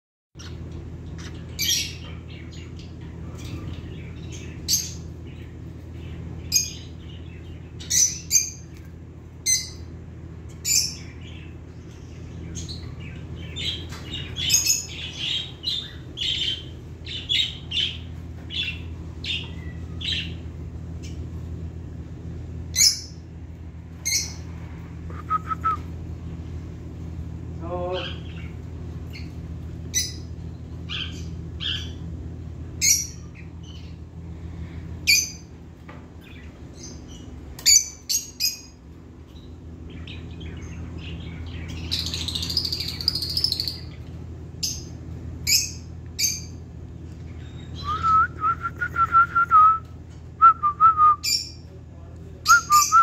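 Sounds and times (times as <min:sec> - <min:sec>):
lovebirds chirping and squawking: 0:00.4 - 0:25.1, 0:26.0 - 0:48.0, 0:51.2 - 0:51.7, 0:52.4 - 0:53.0
steady low hum: 0:00.4 - 0:53.0.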